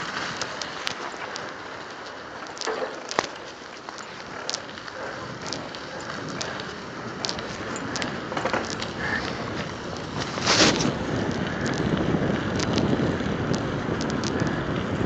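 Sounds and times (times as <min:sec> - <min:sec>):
bike clicks and rattles: 0:00.0 - 0:15.0.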